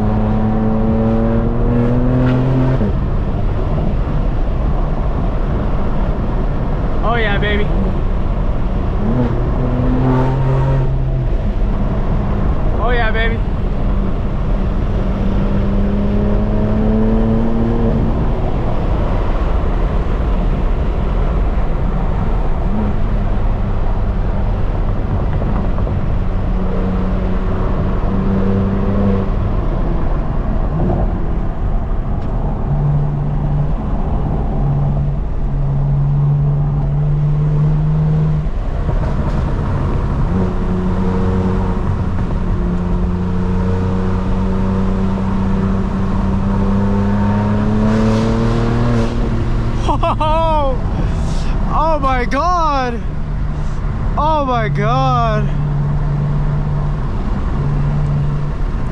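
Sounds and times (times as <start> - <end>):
road and wind noise: 0.0 - 58.9.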